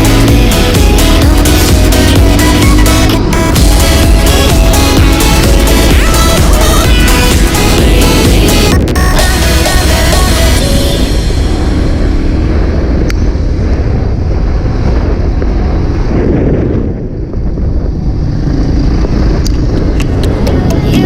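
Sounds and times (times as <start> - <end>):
motorcycle engine rumbling: 0.0 - 21.0
wind noise on microphone: 0.0 - 21.0.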